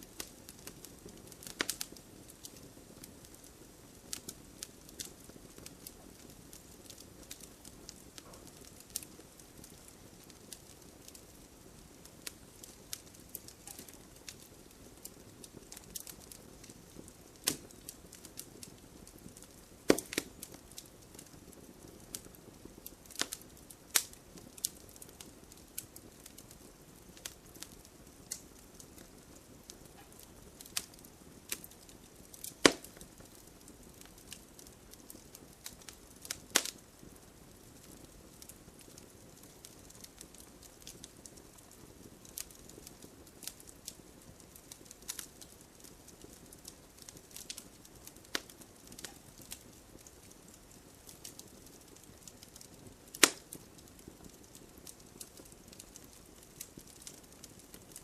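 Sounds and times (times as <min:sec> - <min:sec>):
campfire crackling: 0:00.0 - 0:58.0
fire popping and snapping: 0:00.0 - 0:58.0.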